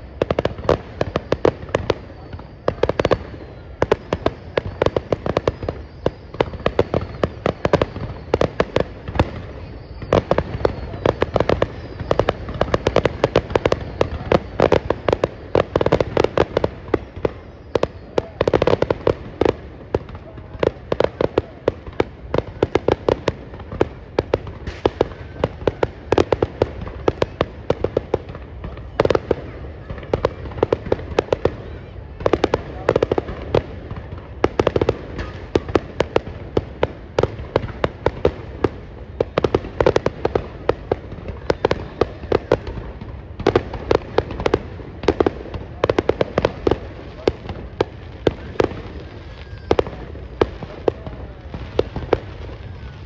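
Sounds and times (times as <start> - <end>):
fireworks banging: 0.0 - 53.0.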